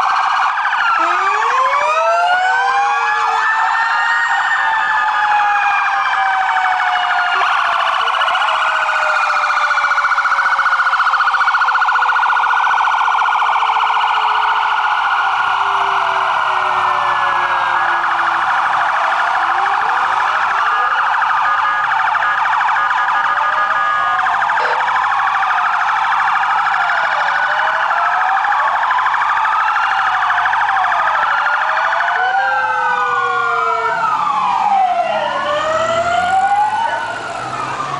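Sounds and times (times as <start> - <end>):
wailing sirens: 0.0 - 37.9.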